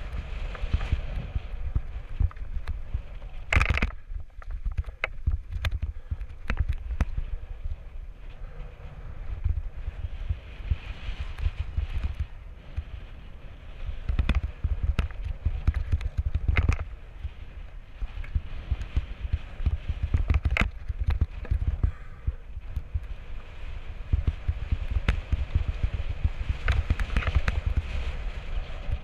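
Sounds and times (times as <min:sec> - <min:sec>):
bike clacking and rattling: 0:00.0 - 0:07.5, 0:09.3 - 0:23.1, 0:23.8 - 0:29.0
wind rumble on microphone: 0:00.0 - 0:29.0.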